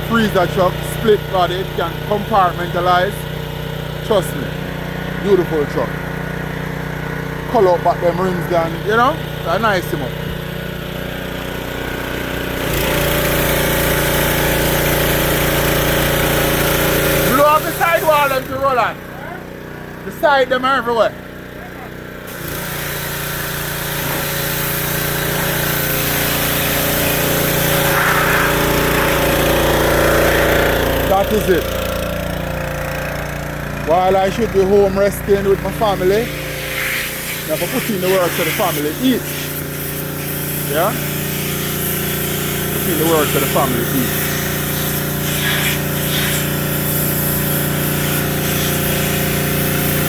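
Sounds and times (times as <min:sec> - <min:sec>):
machine motor running: 0:00.0 - 0:20.5, 0:21.1 - 0:50.0.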